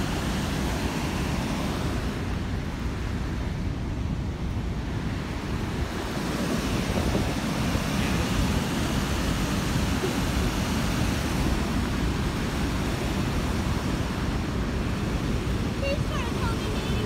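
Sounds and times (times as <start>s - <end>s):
river water rushing over weir: 0.0s - 17.0s
wind buffeting microphone: 0.0s - 17.0s.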